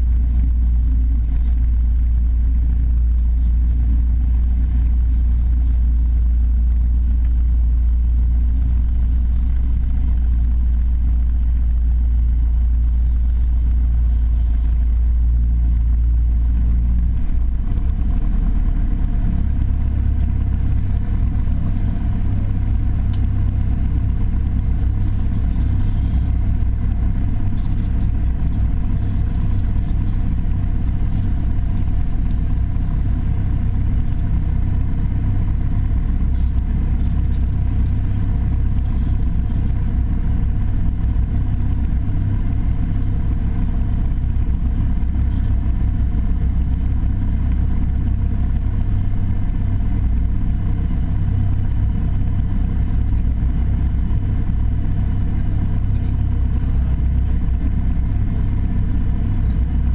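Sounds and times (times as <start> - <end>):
piston aircraft engine droning: 0.0 - 59.9.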